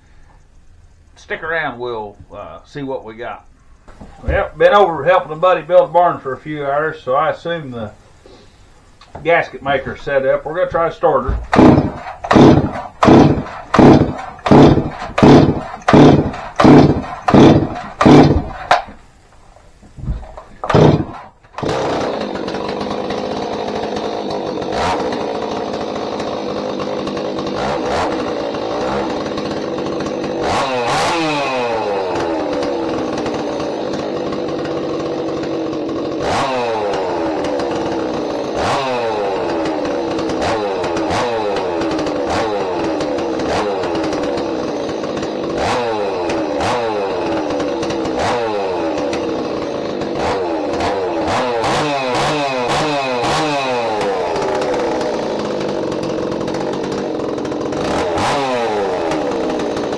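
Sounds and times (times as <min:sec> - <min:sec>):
chainsaw revving: 0:09.9 - 0:19.0, 0:20.2 - 0:59.9.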